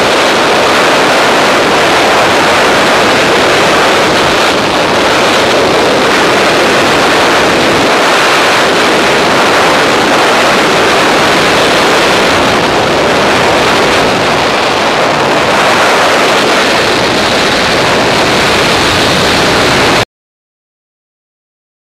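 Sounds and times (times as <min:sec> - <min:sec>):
wind roaring over microphone: 0:00.0 - 0:20.0.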